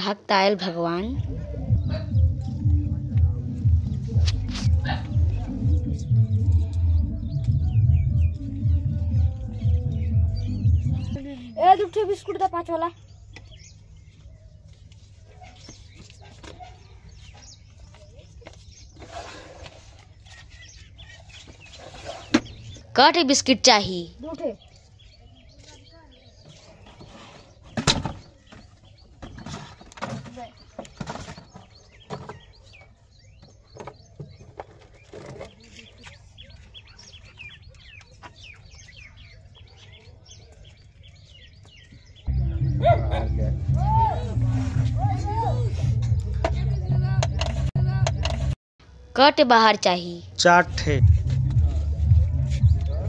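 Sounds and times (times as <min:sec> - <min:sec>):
small birds chirping: 0:00.1 - 0:48.6.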